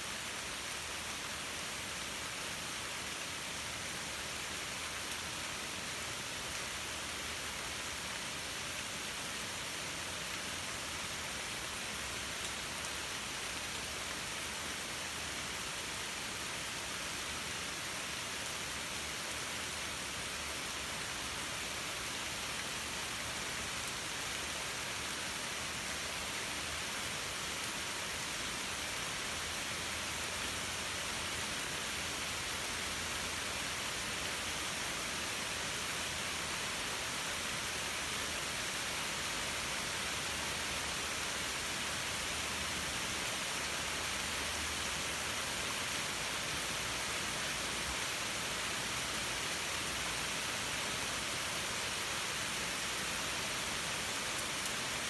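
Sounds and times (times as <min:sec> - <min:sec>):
rain falling through trees: 0:00.0 - 0:55.0.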